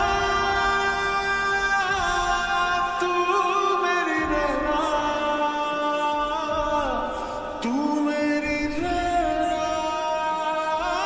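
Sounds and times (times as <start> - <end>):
love song with singer holding note: 0.0 - 11.0.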